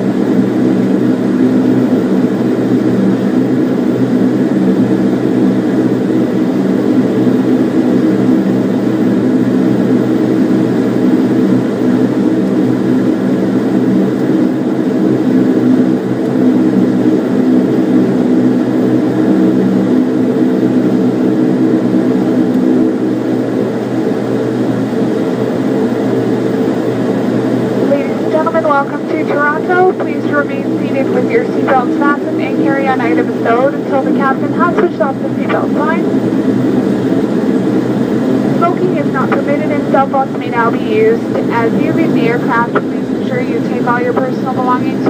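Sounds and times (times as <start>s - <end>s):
turboprop engines droning in cabin: 0.0s - 45.0s.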